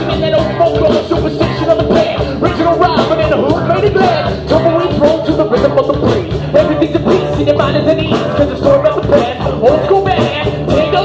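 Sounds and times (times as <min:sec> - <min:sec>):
person singing into microphone: 0:00.0 - 0:11.0
steady drum beat: 0:00.0 - 0:11.0.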